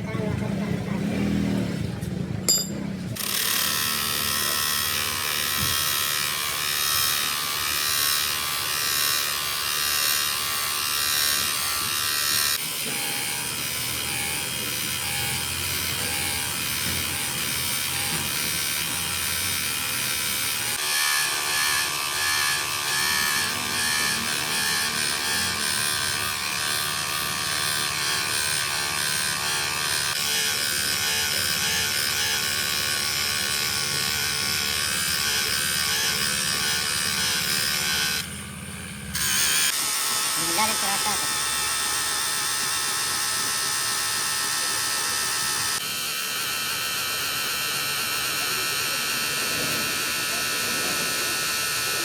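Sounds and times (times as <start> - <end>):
power tool motor buzzing: 2.5 - 52.0.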